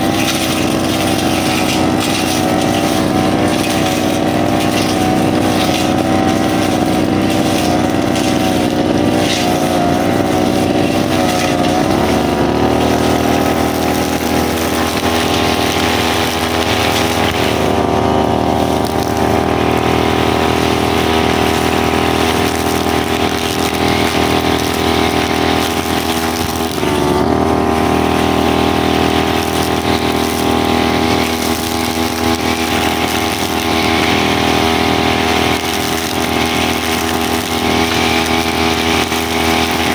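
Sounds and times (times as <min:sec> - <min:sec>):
brushcutter engine running hard: 0:00.0 - 0:39.9.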